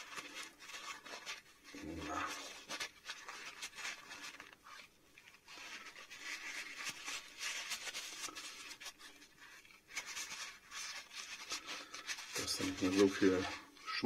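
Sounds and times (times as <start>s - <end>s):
tissue rustling in paint cup: 0.0s - 14.0s.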